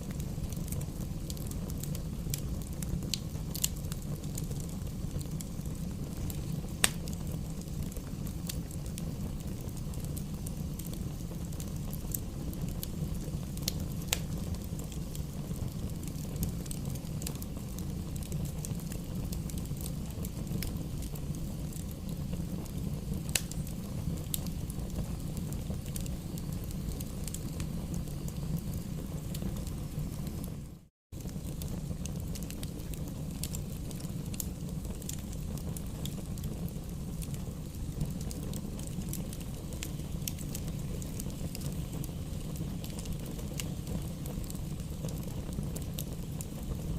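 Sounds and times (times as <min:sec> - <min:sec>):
fire crackling and popping: 0:00.0 - 0:46.9
fire flames rumbling: 0:00.0 - 0:46.9.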